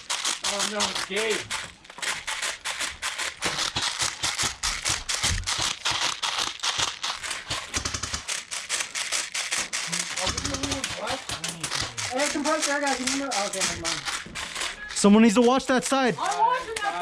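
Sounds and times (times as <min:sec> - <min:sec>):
airsoft gunfire: 0:00.0 - 0:17.0.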